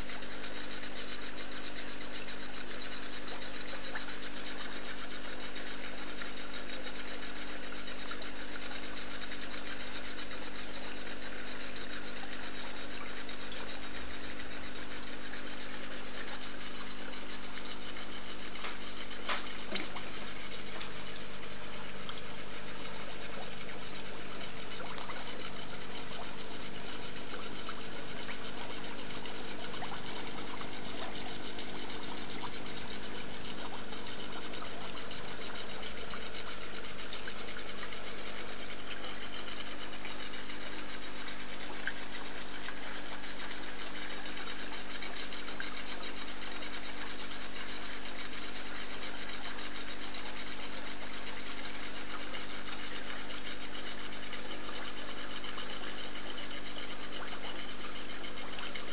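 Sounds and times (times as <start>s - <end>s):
motor hum: 0.0s - 58.9s
moving water: 0.0s - 58.9s.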